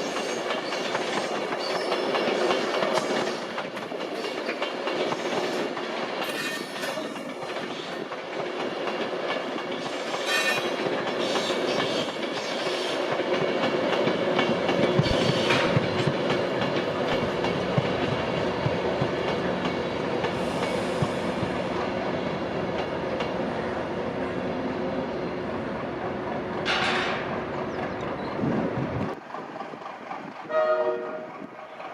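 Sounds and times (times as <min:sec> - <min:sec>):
train wheels clickety-clack: 0:00.0 - 0:23.4, 0:25.8 - 0:31.9.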